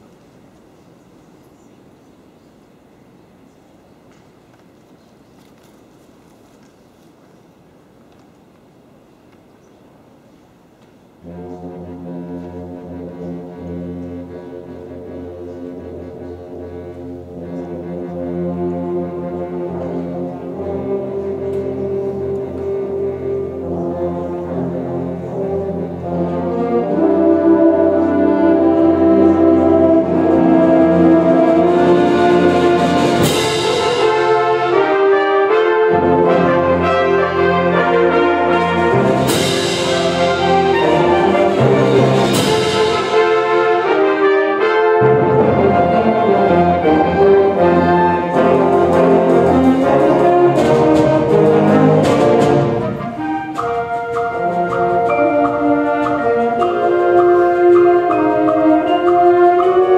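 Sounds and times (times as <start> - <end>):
concert band brass chords: 11.2 - 59.9.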